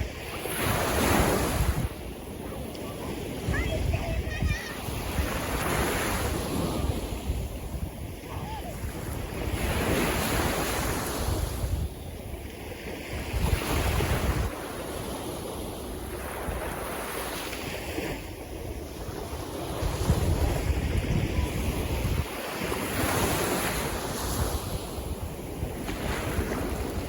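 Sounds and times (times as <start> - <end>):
sea waves breaking: 0.0 - 27.0
wind on microphone: 0.0 - 27.0.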